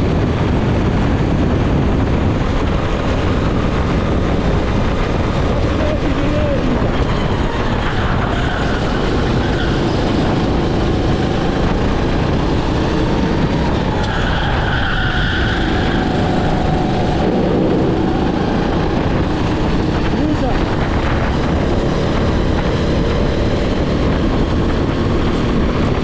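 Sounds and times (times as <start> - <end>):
racing kart engine: 0.0 - 26.0.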